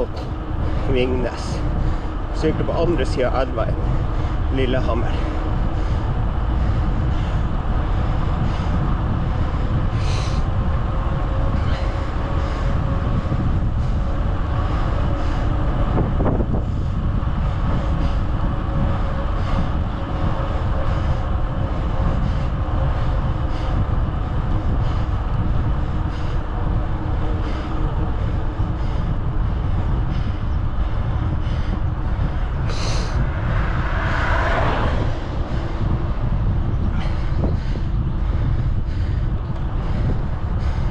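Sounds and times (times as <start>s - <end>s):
bicycle tyres rumbling on road: 0.0s - 40.9s
faint steady hum: 0.0s - 40.9s
wind rushing over microphone: 0.0s - 40.9s.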